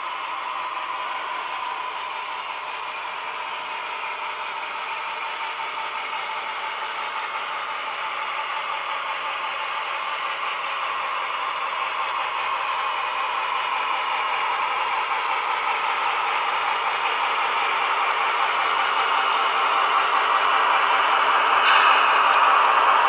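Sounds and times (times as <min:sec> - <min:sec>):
model train rolling rattle on track: 0:00.0 - 0:23.0.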